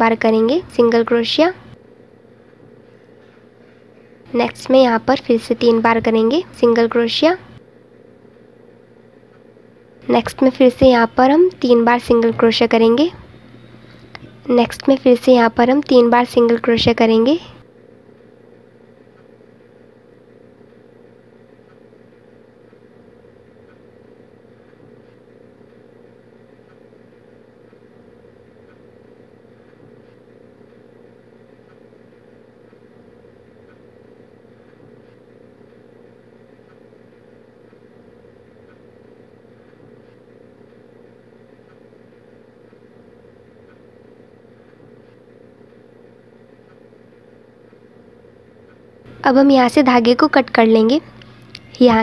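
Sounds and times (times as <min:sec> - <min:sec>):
low background hum: 0:00.0 - 0:52.0.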